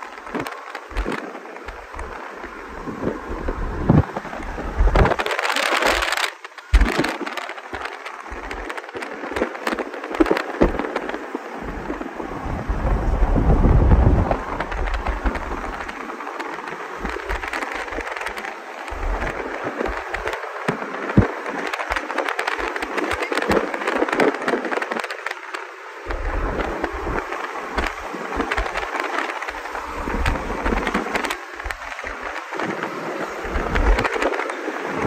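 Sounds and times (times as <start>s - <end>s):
road and tyre noise: 0.0s - 35.0s
wind buffeting microphone: 0.0s - 35.0s.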